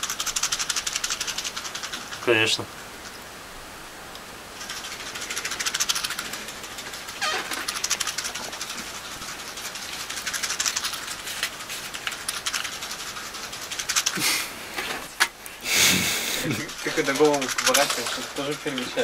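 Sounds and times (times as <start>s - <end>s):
matches rattling in a matchbox: 0.0s - 2.5s, 4.6s - 15.2s, 16.5s - 19.0s.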